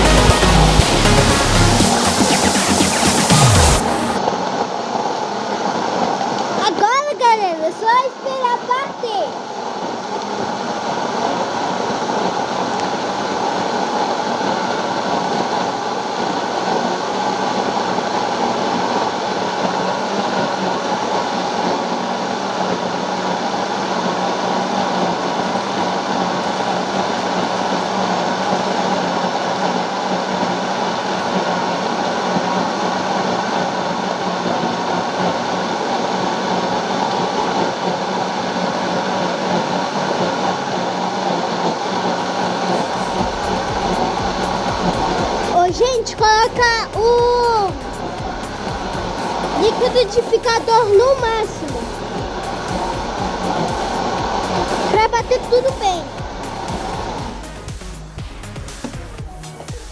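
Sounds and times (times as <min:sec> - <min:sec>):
electric blender running: 0:00.0 - 0:06.6, 0:09.3 - 0:59.9.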